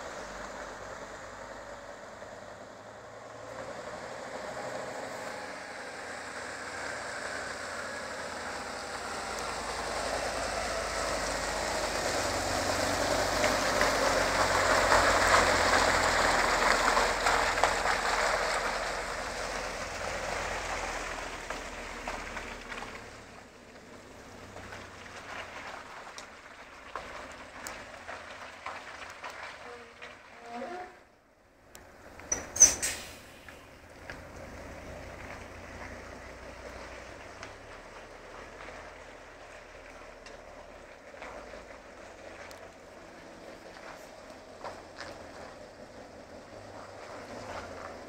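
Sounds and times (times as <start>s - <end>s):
truck driving past: 0.0s - 31.0s, 31.7s - 48.0s.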